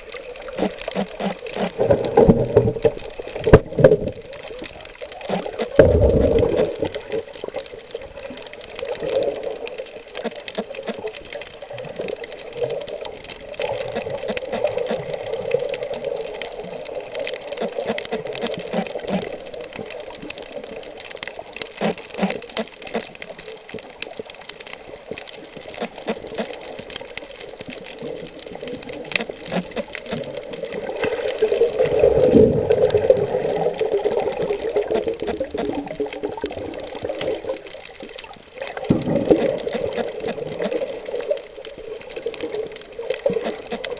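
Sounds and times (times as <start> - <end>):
muffled underwater rushing: 0.0 - 43.9
underwater clicks and crackles: 0.0 - 43.9.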